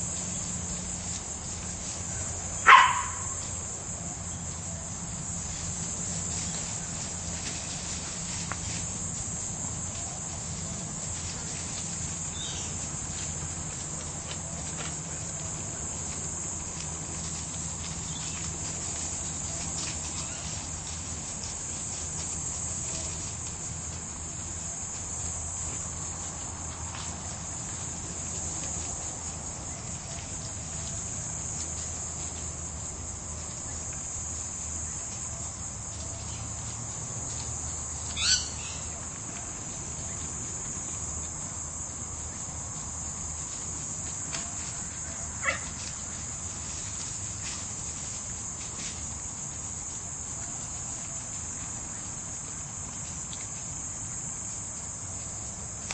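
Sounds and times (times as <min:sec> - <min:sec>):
dogs digging in dry leaves: 0:00.0 - 0:55.9
high-pitched insect chorus: 0:00.0 - 0:55.9.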